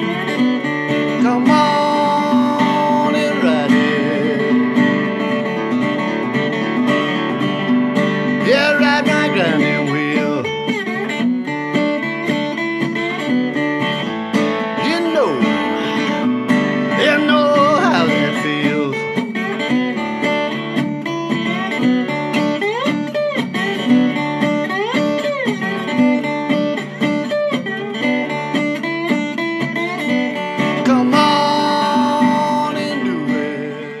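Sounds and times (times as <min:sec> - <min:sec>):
acoustic guitar music: 0:00.0 - 0:34.0.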